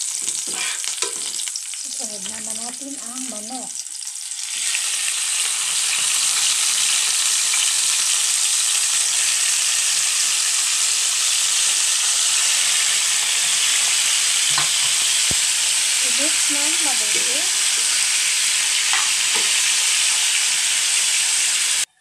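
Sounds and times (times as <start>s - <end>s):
chicken sizzling in a pan: 0.0s - 21.9s.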